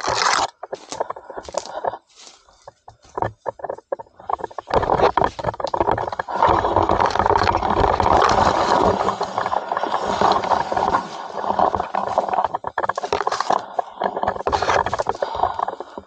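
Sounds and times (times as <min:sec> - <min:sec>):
leaves and twigs brushing camera: 0:00.0 - 0:16.0.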